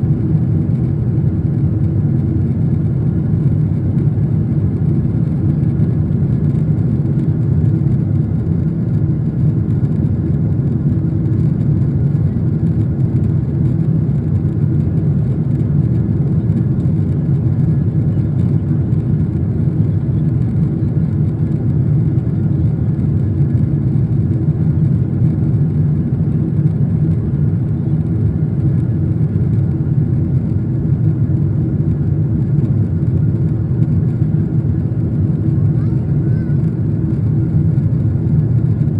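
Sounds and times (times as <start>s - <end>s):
airliner cabin drone: 0.0s - 38.9s.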